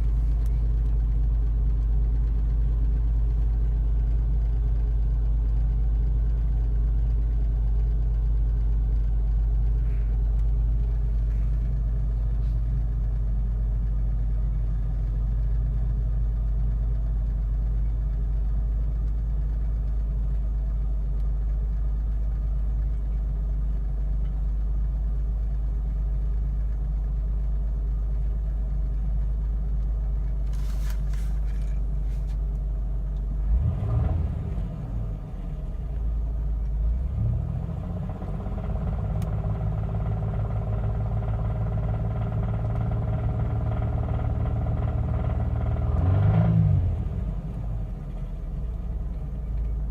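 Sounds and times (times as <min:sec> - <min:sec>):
car engine rumbling: 0:00.0 - 0:49.9.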